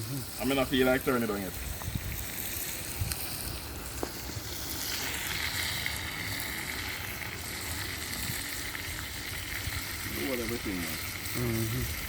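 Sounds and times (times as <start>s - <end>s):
curry sizzling in a pot: 0.0s - 12.0s.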